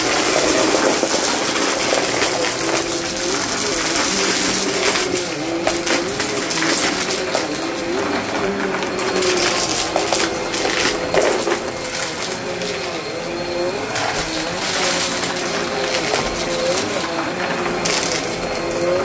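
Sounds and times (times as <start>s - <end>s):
vacuum cleaner running over carpet: 0.0s - 19.0s.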